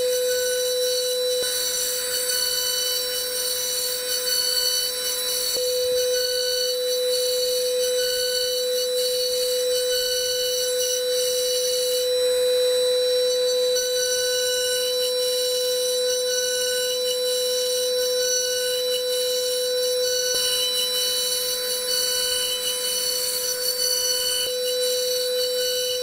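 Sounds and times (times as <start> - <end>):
milling spindle whining: 0.0 - 14.2, 17.6 - 26.0.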